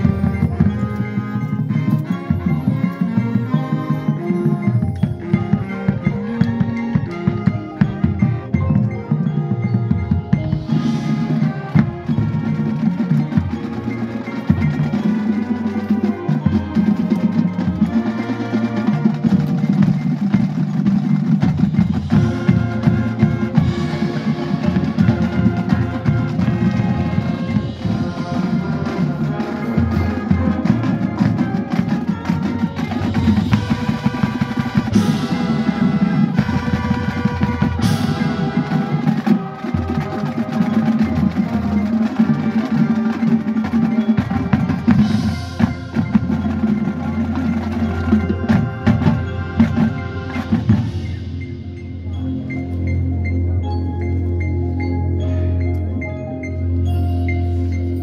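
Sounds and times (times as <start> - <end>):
drums beating: 0.0 - 52.6
mallet percussion ringing: 0.0 - 58.0
wind instruments holding chords: 0.0 - 58.0.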